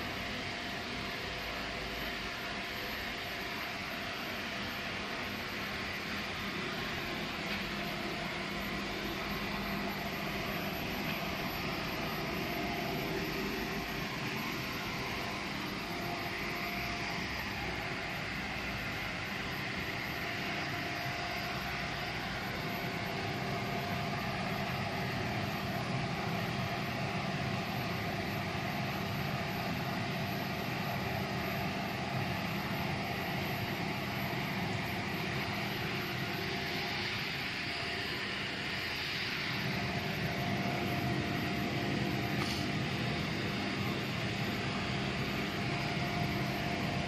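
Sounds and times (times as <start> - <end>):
machine hum: 0.0 - 47.0.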